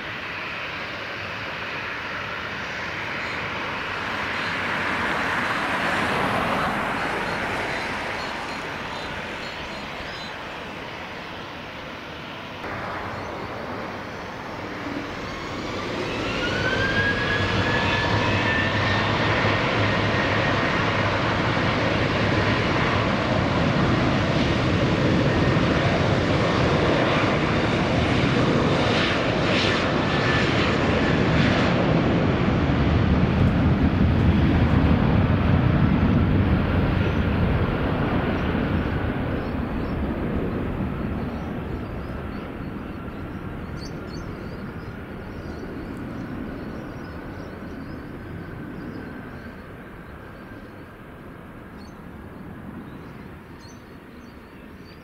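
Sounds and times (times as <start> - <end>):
jet engines roaring: 0.0 - 55.0
jet engines whining: 0.0 - 55.0.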